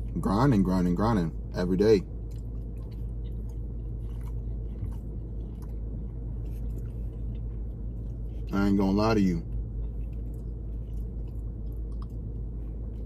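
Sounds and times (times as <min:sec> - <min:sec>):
low hum inside car: 0:00.0 - 0:13.0
close chewing: 0:02.1 - 0:13.0.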